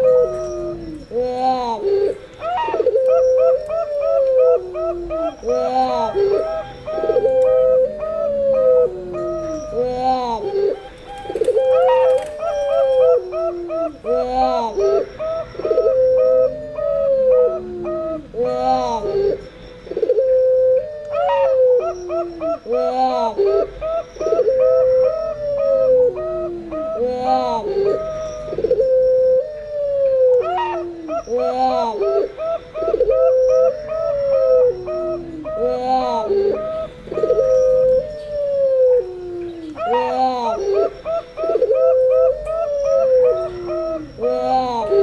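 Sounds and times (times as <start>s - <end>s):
doves cooing: 0.0s - 45.0s
long descending dove coo: 0.0s - 45.0s
small birds chirping: 0.0s - 45.0s.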